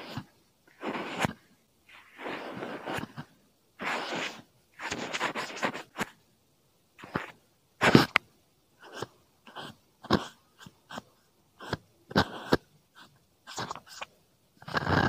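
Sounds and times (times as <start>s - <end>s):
rubbing and scratching noise: 0.0s - 6.3s, 7.0s - 15.0s.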